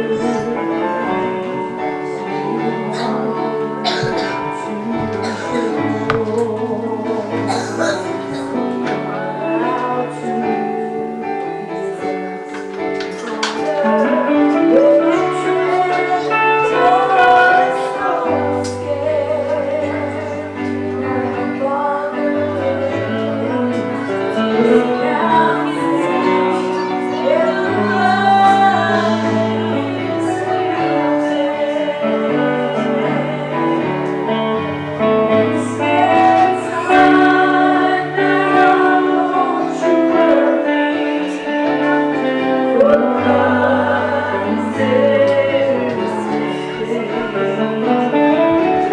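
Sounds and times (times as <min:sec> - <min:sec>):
keyboard and bass accompaniment: 0:00.0 - 0:48.9
woman singing gospel: 0:00.0 - 0:48.9.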